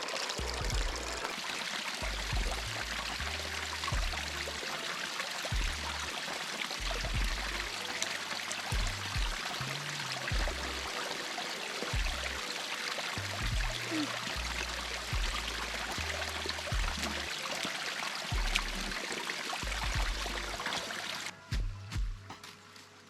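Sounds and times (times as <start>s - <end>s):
running water flowing: 0.0s - 21.4s
soft background music: 0.0s - 23.0s.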